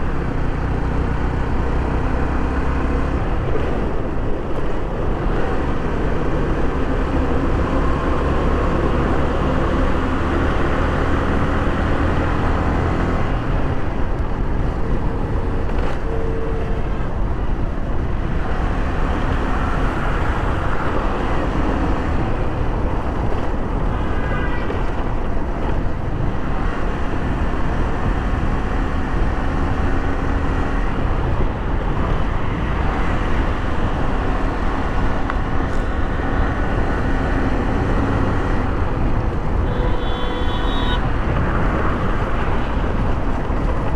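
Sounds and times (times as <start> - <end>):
road and traffic noise: 0.0 - 43.9.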